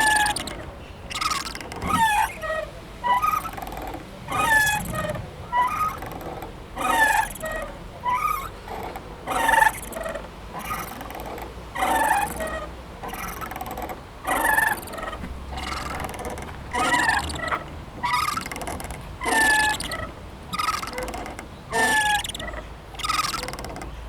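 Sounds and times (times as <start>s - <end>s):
swing squeaking: 0.0s - 24.0s.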